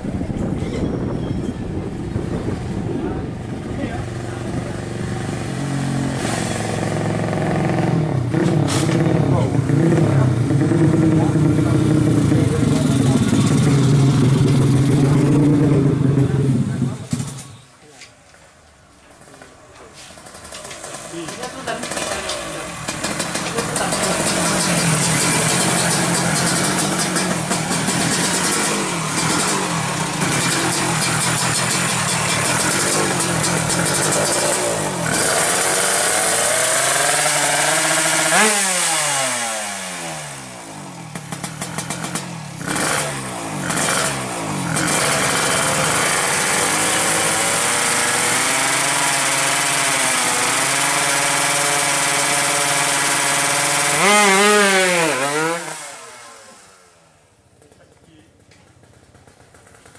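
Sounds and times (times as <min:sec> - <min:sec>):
two-stroke motorcycle revving: 0:00.0 - 0:17.6, 0:20.2 - 0:59.9.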